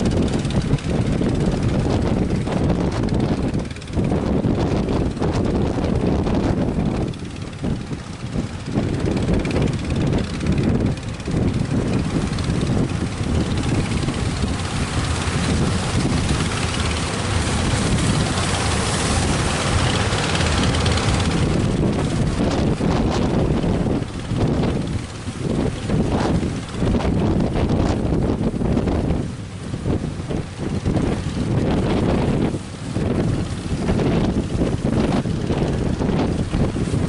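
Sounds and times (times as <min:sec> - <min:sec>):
strong wind buffeting microphone: 0:00.0 - 0:37.0
surf roaring: 0:00.0 - 0:37.0.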